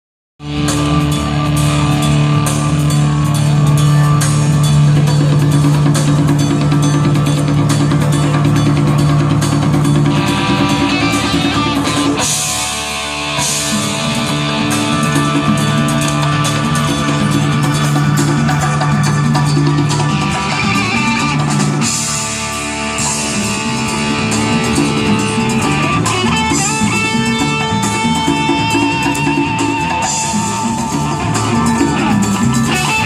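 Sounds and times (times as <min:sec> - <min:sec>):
live rock band playing: 0:00.4 - 0:33.0
drum kit beat: 0:00.5 - 0:33.0.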